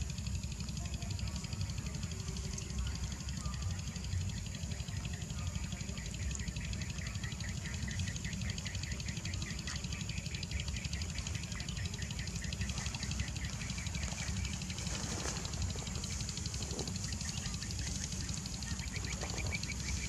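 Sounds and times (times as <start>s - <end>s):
faint rhythmic chirping: 0.0s - 20.0s.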